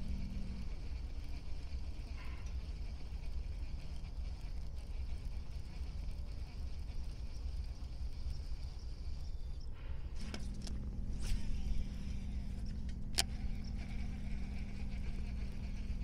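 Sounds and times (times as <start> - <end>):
sharp reel clicks: 0.0 - 9.6, 10.2 - 16.0
fishing reel gear hum: 0.0 - 16.0.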